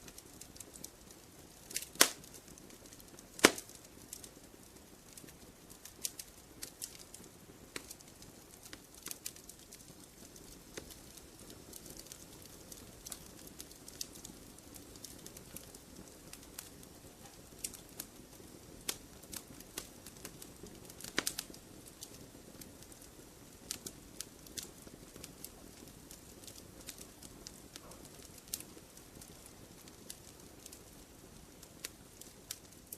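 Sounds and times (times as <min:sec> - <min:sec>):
fire crackling and popping: 0:00.0 - 0:32.9
soft steady hiss: 0:00.0 - 0:32.9.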